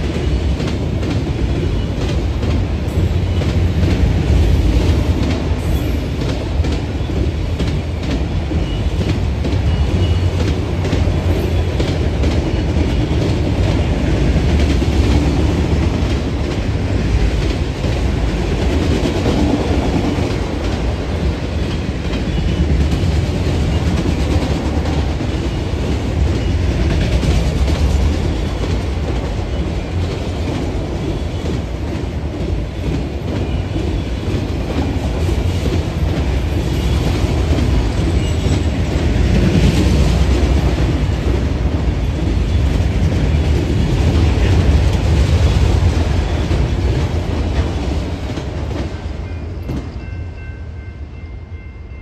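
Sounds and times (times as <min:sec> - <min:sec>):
train wheels clattering: 0:00.0 - 0:50.4.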